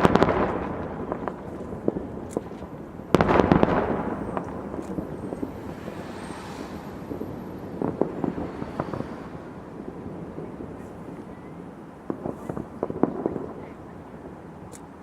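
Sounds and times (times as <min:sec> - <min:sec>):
fireworks bangs: 0:00.0 - 0:15.0
fireworks pops and crackles: 0:00.0 - 0:15.0.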